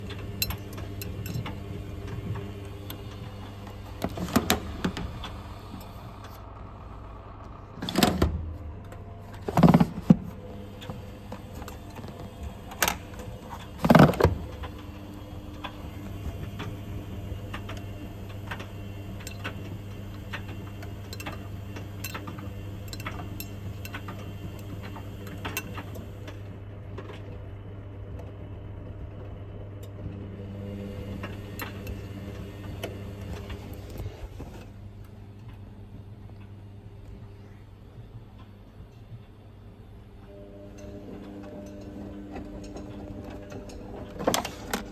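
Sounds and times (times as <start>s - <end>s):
washing machine humming: 0.0s - 44.9s.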